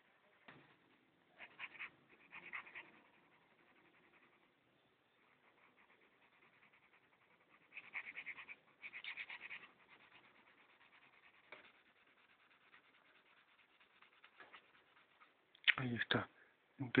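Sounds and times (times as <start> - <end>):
pencil shading on paper: 0.0 - 15.4.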